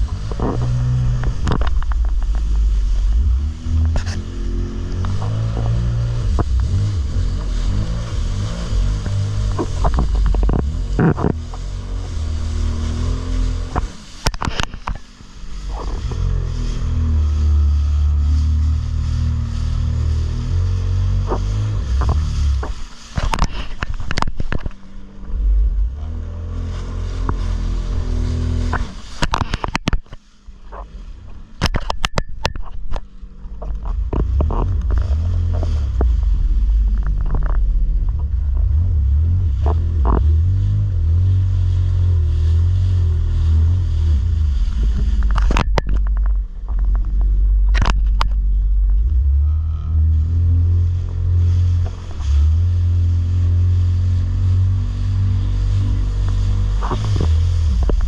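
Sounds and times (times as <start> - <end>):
jet ski engine running: 0.0 - 58.0.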